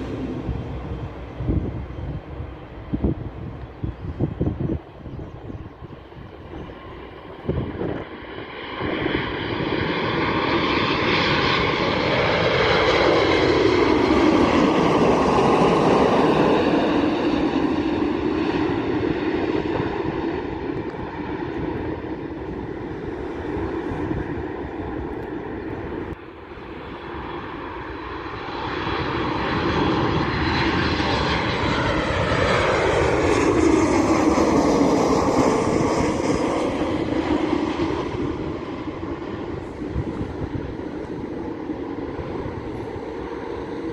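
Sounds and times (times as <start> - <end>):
jet airliner passing overhead: 0.0 - 43.9.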